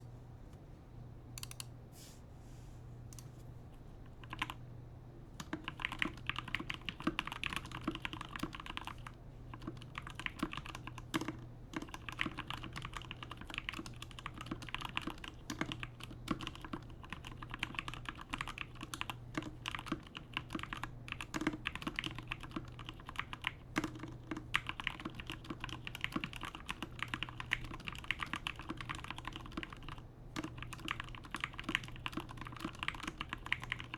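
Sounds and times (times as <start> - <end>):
mechanical keyboard typing: 1.4 - 1.7, 4.2 - 4.6, 5.4 - 33.9.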